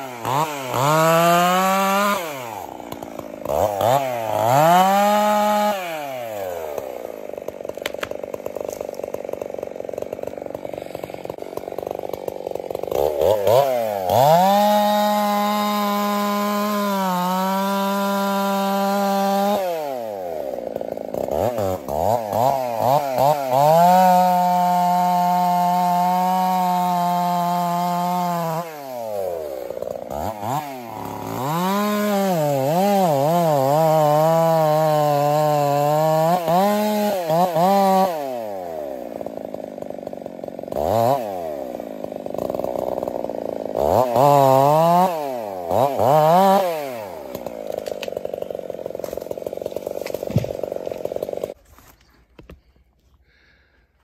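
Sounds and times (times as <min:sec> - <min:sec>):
chainsaw cutting tree: 0:00.0 - 0:52.7.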